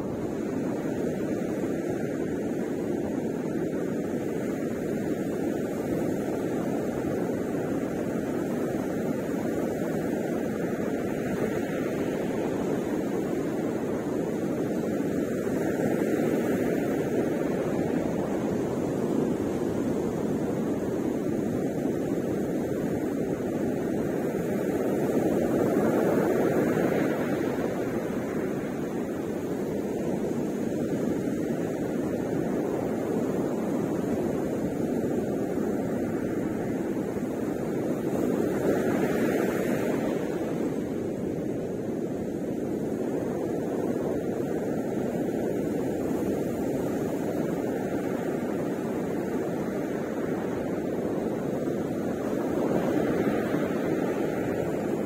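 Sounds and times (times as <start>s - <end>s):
ocean surf breaking: 9.8s - 55.0s.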